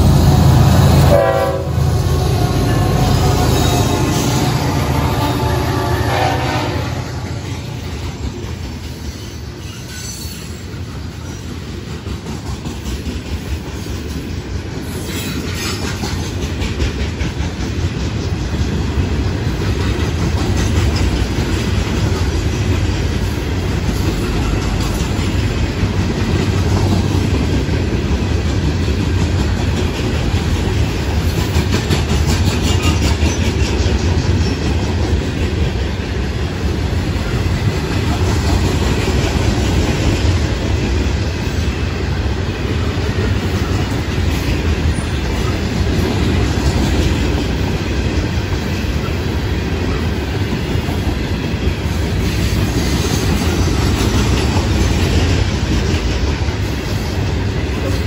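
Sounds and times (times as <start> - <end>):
freight train wheels rumbling: 0.0 - 58.0
wheels clacking over rail joints: 7.8 - 58.0.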